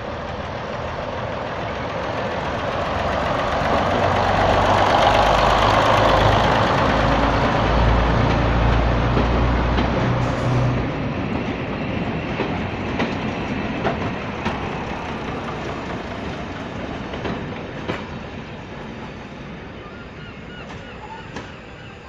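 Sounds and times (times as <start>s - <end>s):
train pulling away: 0.0s - 22.0s
train wheels clacking over rail joints: 0.1s - 18.7s, 20.6s - 21.7s.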